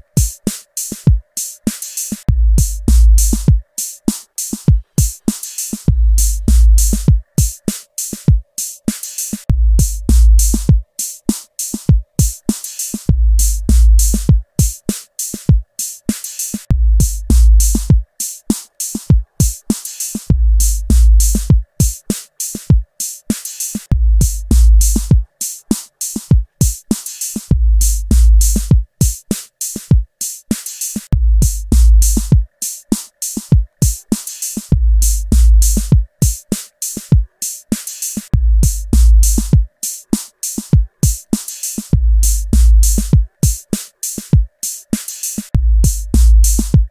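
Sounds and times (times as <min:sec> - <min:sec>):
electronic drum machine beat: 0:00.0 - 0:46.9.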